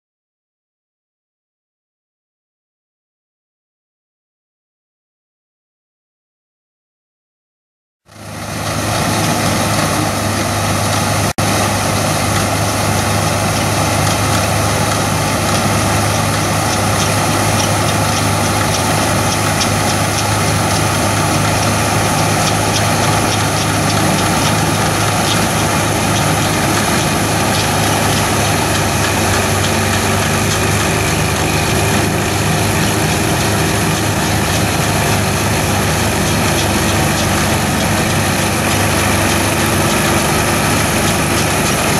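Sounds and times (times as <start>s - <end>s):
combine engine drone: 8.1s - 41.9s
threshing machinery rattle: 8.1s - 41.9s.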